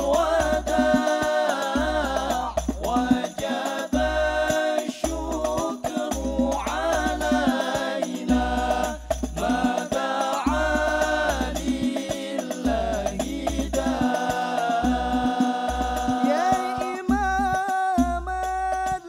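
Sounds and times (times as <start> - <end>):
men chanting together: 0.0 - 19.0.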